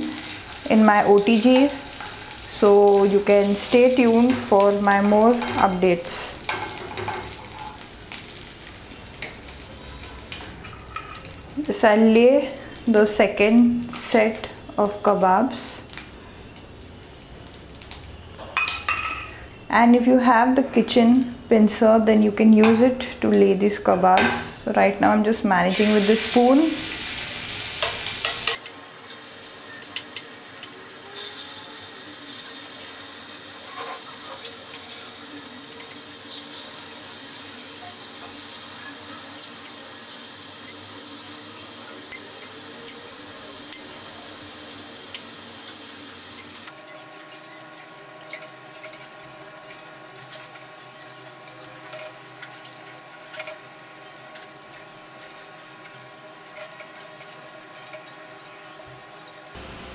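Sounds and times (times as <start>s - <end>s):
meat sizzling in a pan: 0.0s - 19.5s, 25.7s - 59.9s.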